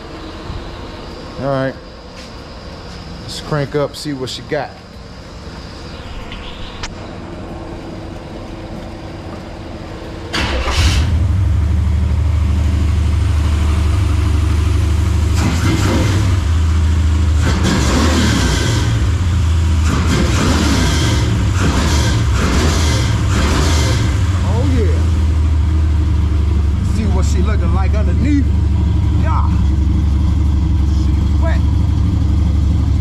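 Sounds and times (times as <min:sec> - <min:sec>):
engine throttle blips: 0:00.0 - 0:33.0
v eight engine starting and running: 0:00.0 - 0:33.0.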